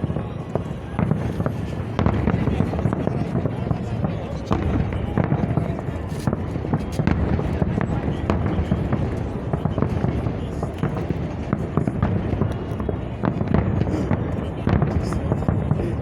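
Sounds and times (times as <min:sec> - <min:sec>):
fireworks bangs and crackling: 0:00.0 - 0:16.0
voices: 0:00.0 - 0:16.0.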